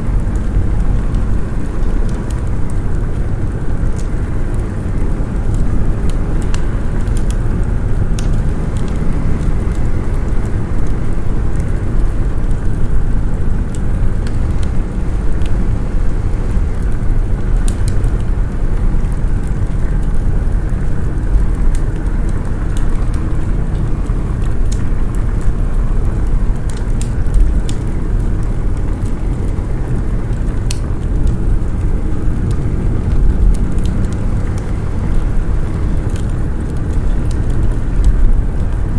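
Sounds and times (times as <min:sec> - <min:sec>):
snowstorm wind rumble: 0:00.0 - 0:38.9
wood fire crackling and popping: 0:00.0 - 0:38.9.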